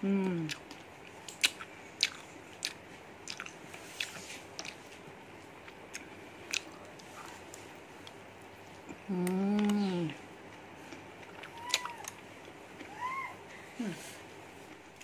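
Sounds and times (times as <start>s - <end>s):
person chewing food: 0.1s - 12.9s.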